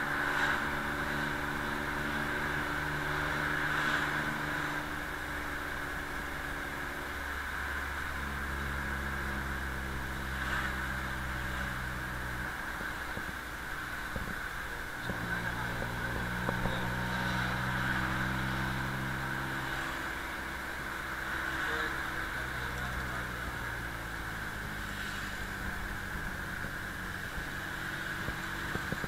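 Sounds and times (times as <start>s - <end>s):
muffled vehicle engine hum: 0.0s - 29.0s.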